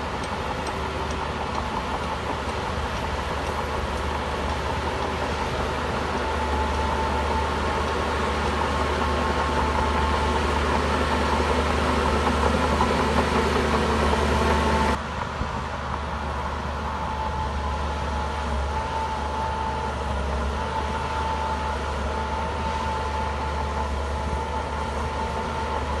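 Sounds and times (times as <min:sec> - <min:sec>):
heavy machinery diesel engine: 0:00.0 - 0:26.0.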